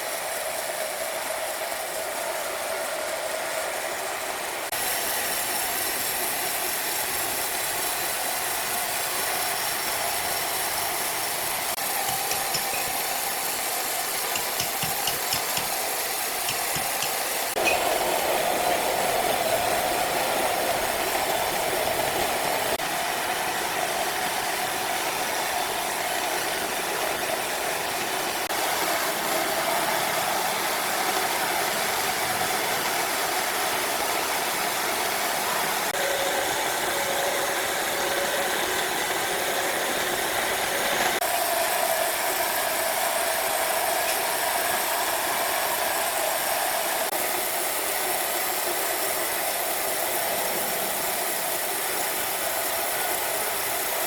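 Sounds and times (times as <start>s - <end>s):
wood-sawing machinery droning: 0.0s - 54.0s.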